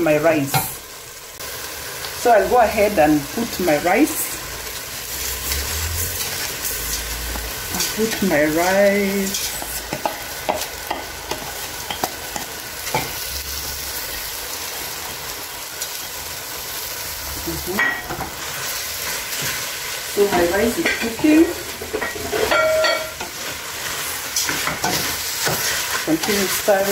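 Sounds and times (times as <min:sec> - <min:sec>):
rice sizzling in a pot: 0:00.0 - 0:26.9.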